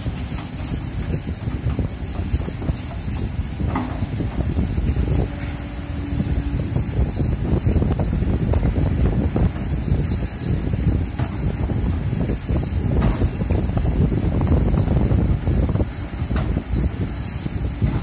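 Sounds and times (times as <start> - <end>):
excavator diesel engine running: 0.0 - 18.0
wind buffeting microphone: 0.0 - 18.0.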